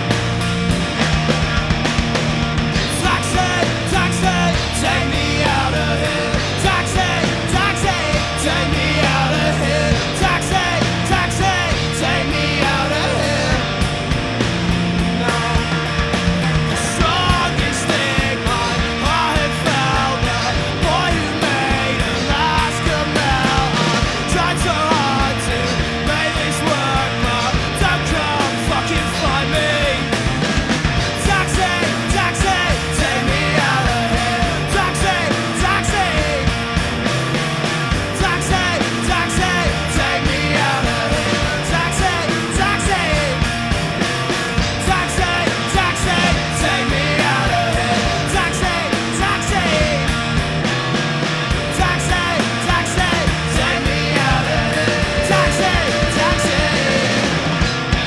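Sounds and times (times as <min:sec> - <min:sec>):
drums: 0:00.0 - 0:58.0
electric guitars: 0:00.0 - 0:58.0.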